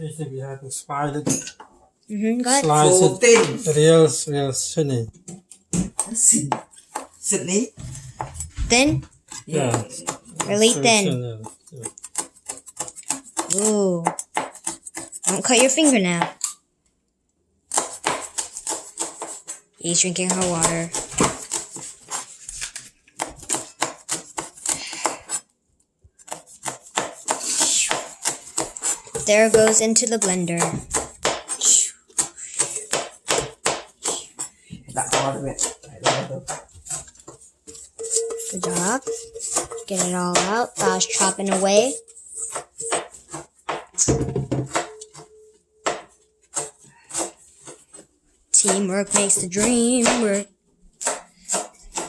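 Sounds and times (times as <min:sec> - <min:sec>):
knife chopping on cutting board: 0:05.7 - 0:07.2, 0:08.7 - 0:16.4, 0:17.7 - 0:22.4, 0:23.2 - 0:25.4, 0:26.2 - 0:52.0.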